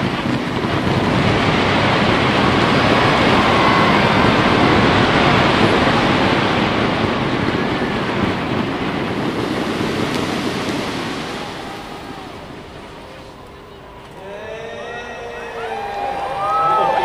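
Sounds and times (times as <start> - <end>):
fireworks rushing noise: 0.0 - 17.0.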